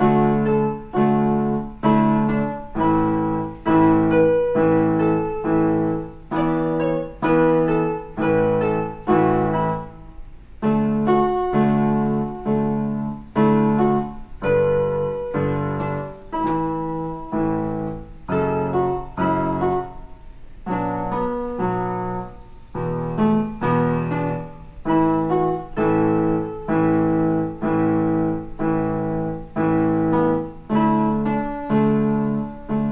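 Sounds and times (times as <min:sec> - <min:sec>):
keyboard piano chords: 0:00.0 - 0:32.9.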